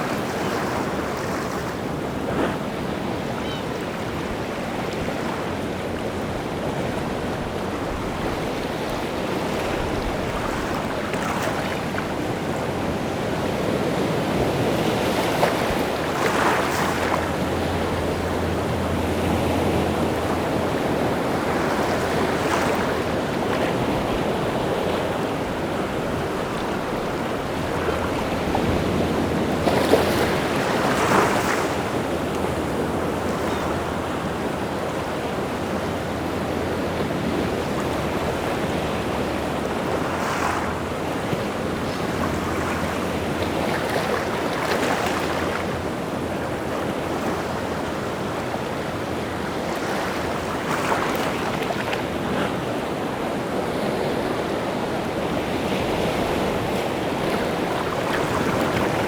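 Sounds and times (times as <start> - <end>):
sea waves breaking on shore: 0.0 - 59.0
wind: 0.0 - 59.0.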